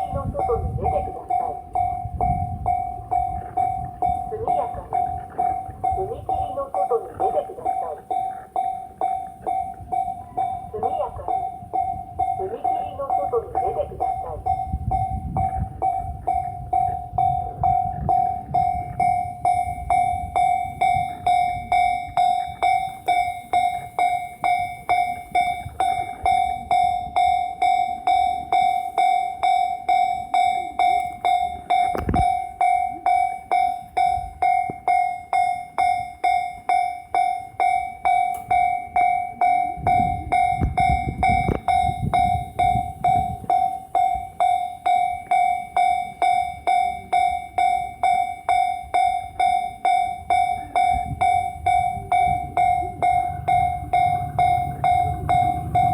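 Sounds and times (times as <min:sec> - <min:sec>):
level crossing warning bell: 0:00.0 - 0:55.9
train rumble: 0:00.0 - 0:55.9.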